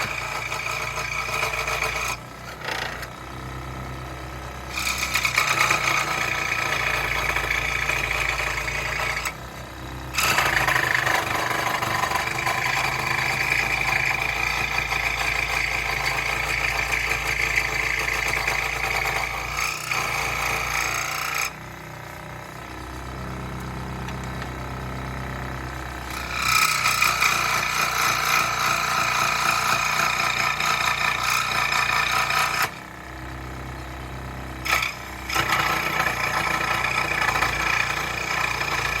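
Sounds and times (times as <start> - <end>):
scroll saw cutting wood: 0.0 - 3.2, 4.6 - 33.4, 34.6 - 39.0.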